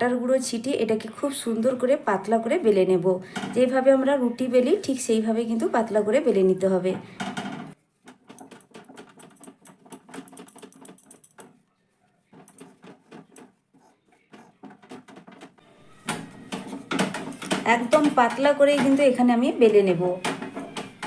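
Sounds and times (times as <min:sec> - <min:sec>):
rolling pin rolling dough: 0:00.0 - 0:21.0.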